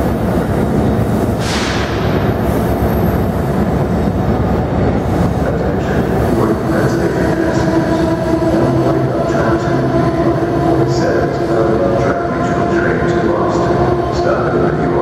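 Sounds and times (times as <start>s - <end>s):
steady whine: 0.0s - 15.0s
train wheels rumbling on rail: 0.0s - 15.0s.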